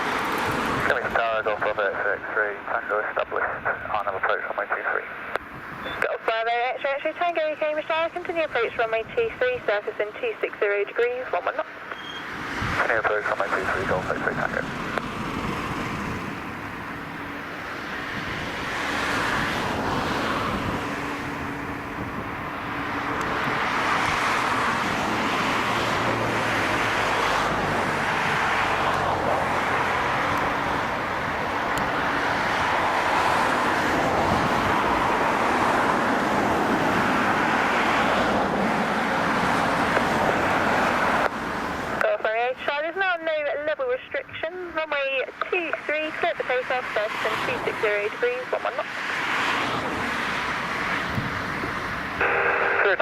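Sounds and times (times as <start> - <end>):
jet engines roaring: 0.0 - 42.0, 44.9 - 53.0.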